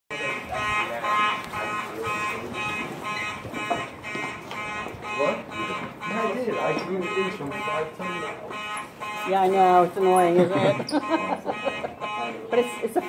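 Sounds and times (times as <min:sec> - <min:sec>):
fire alarm horn buzzing: 0:00.1 - 0:13.0.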